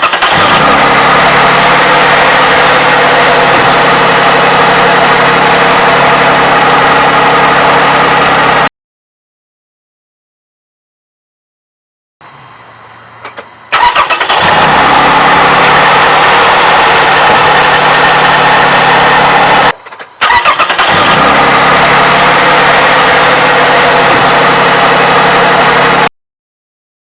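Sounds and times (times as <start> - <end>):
car engine starting and running: 0.0 - 8.7, 12.2 - 26.1.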